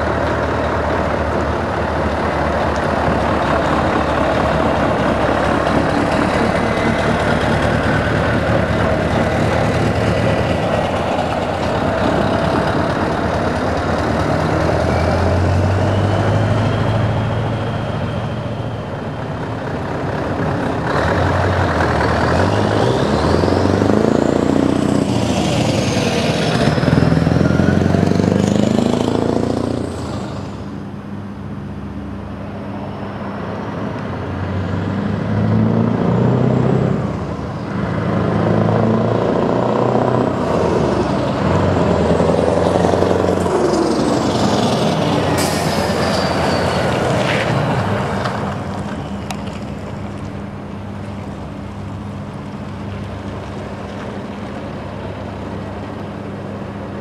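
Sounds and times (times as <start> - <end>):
truck diesel engine driving past: 0.0 - 57.0.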